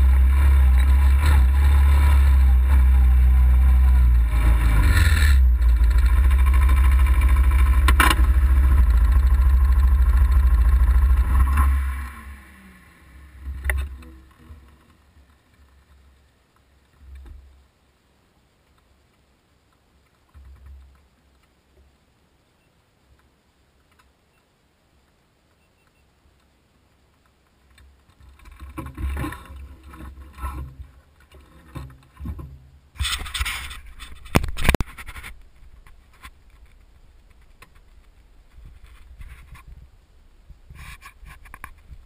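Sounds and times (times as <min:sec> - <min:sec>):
vehicle engine rumbling: 0:00.0 - 0:21.8, 0:26.2 - 0:42.0.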